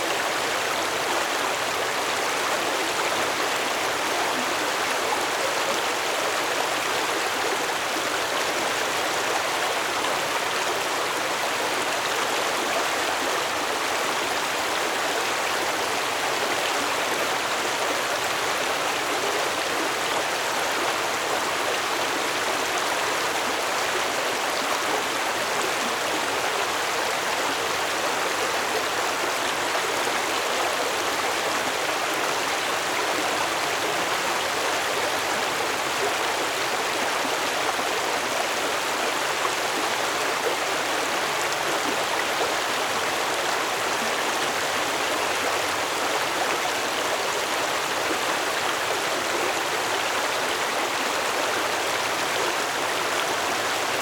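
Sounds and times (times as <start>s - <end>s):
stream burbling over rocks: 0.0s - 54.0s.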